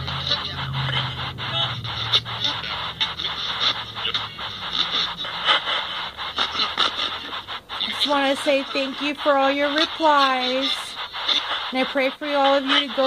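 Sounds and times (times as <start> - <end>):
choppy radio static from phone: 0.0 - 13.0.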